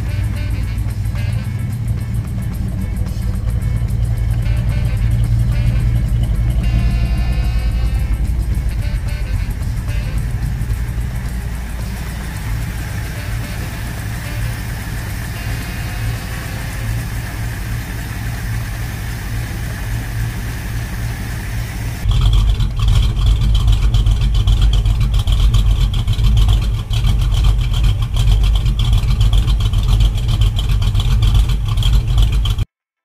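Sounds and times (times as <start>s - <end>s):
deep exhaust note: 0.0s - 32.6s
car engine running: 0.0s - 32.7s.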